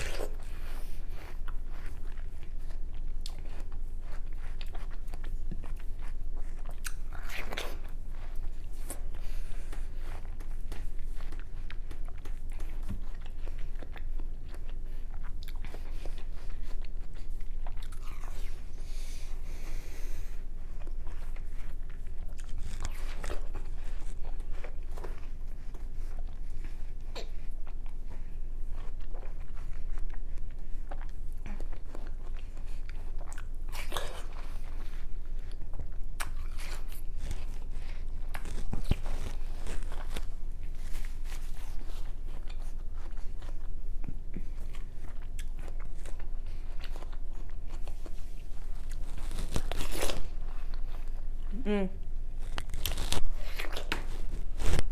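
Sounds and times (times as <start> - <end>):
person biting and chewing watermelon: 0.0 - 54.9.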